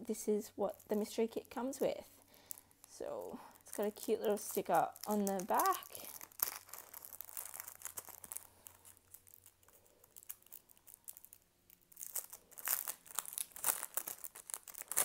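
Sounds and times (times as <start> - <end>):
paper and plastic rustling: 0.8 - 15.0.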